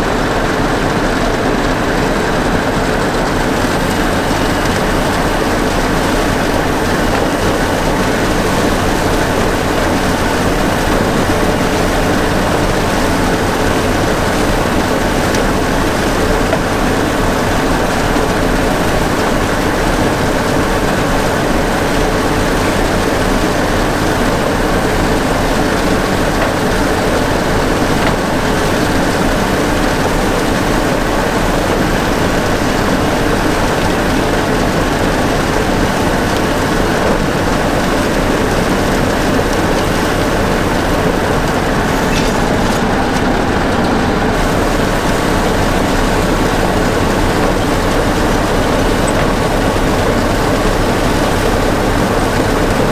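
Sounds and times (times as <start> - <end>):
vehicle engine droning: 0.0 - 52.9.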